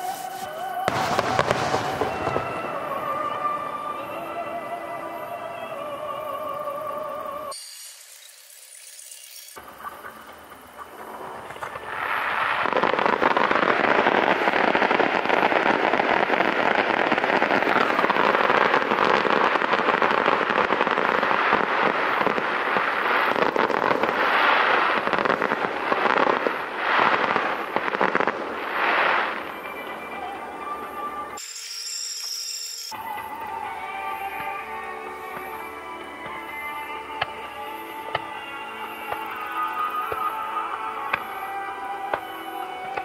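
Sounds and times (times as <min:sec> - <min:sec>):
fireworks crackling bursts: 0:00.0 - 0:43.0.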